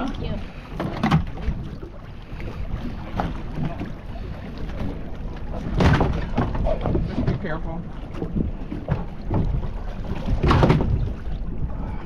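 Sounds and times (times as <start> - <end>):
water lapping at boat: 0.0 - 12.0.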